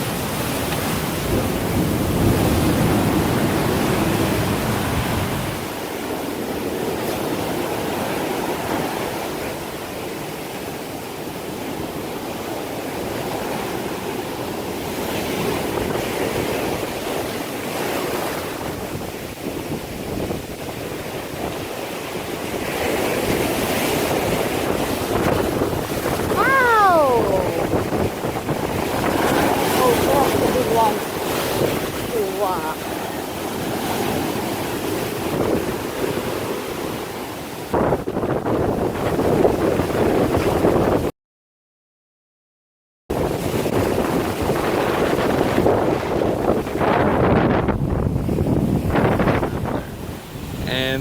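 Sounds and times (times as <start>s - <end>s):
waves breaking on shore: 0.0s - 41.1s, 43.1s - 51.0s.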